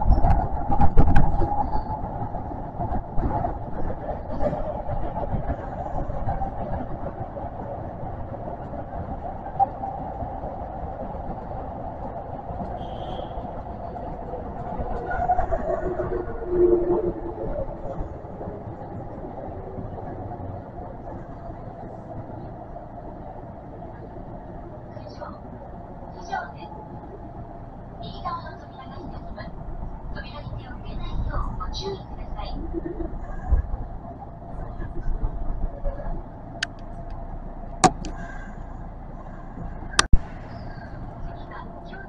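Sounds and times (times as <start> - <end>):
faint hum: 0.0 - 42.0
train rolling rumble from inside: 0.0 - 42.0.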